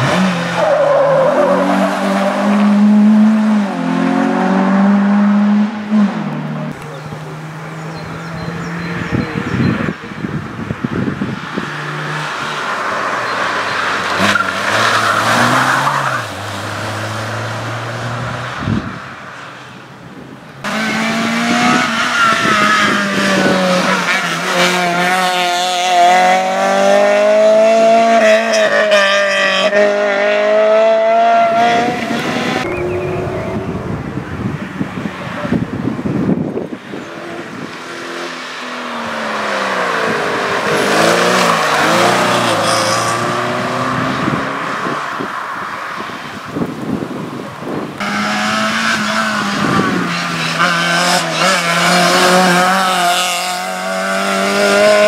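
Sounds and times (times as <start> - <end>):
car engines revving high: 0.0 - 19.4, 20.0 - 55.0.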